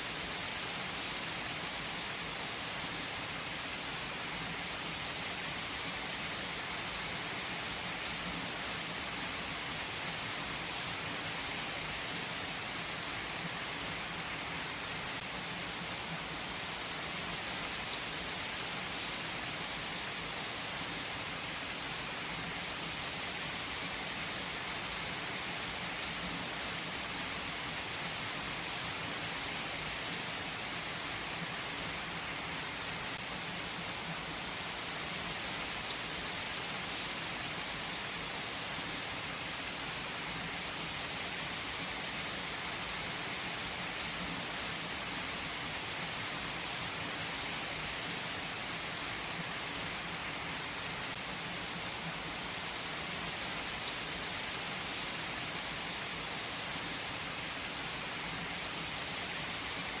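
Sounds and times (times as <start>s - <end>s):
heavy rain on foliage: 0.0s - 60.0s.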